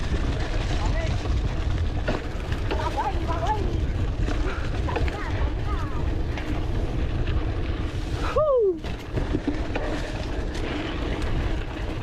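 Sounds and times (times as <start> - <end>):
mountain bike rumbling and rattling: 0.0 - 12.0
wind buffeting microphone: 0.0 - 12.0.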